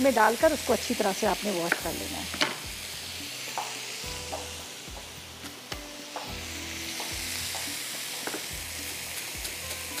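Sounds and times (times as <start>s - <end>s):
chicken sizzling on grill pan: 0.0s - 10.0s.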